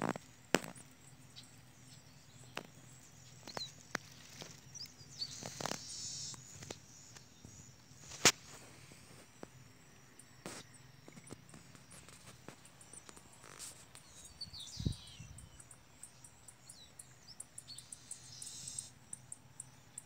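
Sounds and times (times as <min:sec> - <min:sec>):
faint bird chirps: 0:00.0 - 0:20.0
insects ticking: 0:00.0 - 0:20.0.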